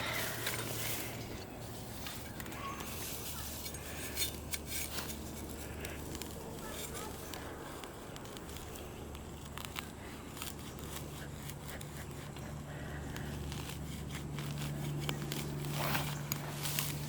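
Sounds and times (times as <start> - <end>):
digger crackling and scraping soil: 0.0 - 17.0
steady low hum: 0.0 - 17.0.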